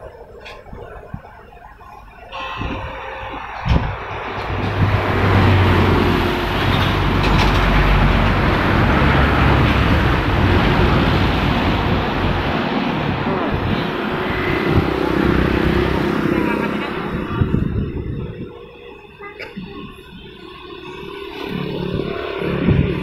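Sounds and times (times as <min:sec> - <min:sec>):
excavator diesel engine droning: 0:00.0 - 0:23.0.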